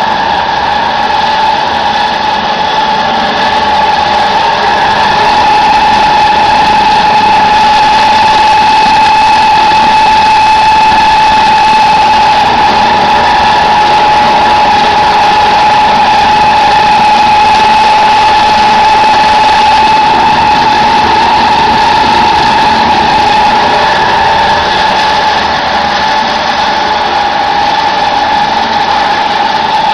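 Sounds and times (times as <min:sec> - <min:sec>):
high-pitched machine whine: 0:00.0 - 0:29.9
pellet press machine droning: 0:00.0 - 0:29.9.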